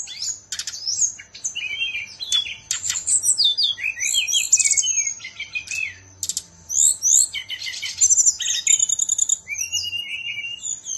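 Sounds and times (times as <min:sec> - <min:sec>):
bird singing whistled song: 0:00.0 - 0:10.9
faint steady hum: 0:00.0 - 0:10.9.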